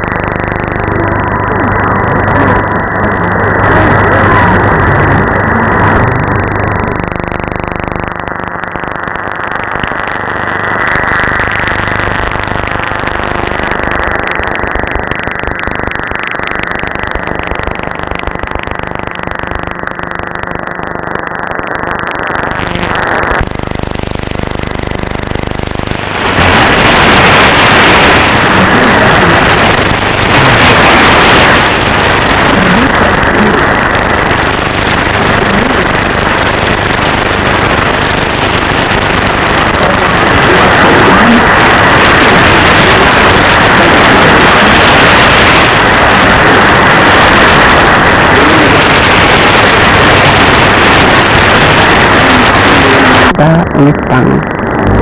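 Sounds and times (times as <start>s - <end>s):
radio static hiss and buzz: 0.0s - 55.0s.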